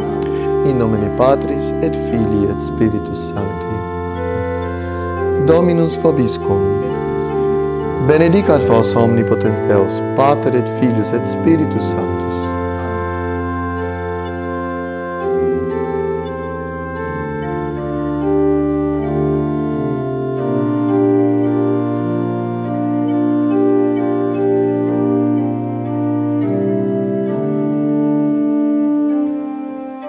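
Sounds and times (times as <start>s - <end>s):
organ playing sustained chords: 0.0s - 30.0s.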